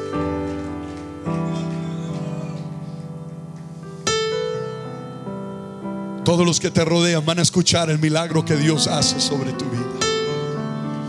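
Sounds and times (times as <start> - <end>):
keyboard playing sustained chords: 0.0 - 11.0.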